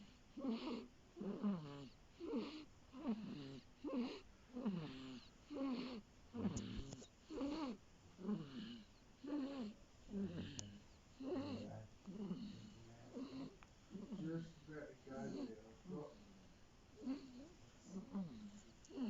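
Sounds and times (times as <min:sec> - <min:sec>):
baby snoring squeakily: 0:00.4 - 0:14.6, 0:17.0 - 0:17.4, 0:18.0 - 0:19.0.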